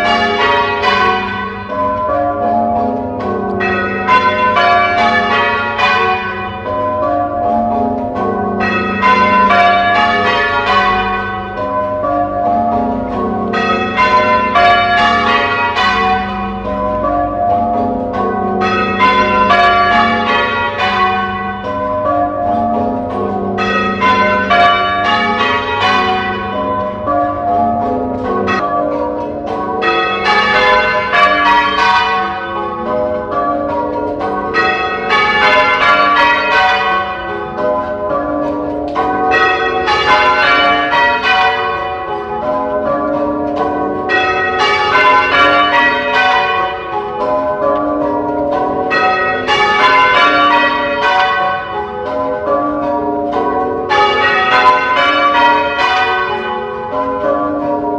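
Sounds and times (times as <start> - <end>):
church bells ringing in sequence: 0.0 - 57.9.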